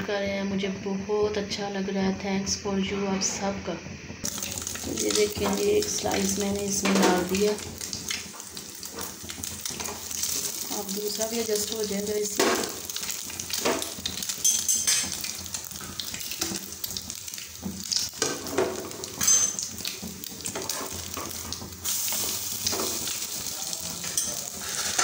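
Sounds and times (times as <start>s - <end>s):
bread sizzling in hot oil: 4.2s - 25.0s
oil popping and crackling: 4.2s - 25.0s.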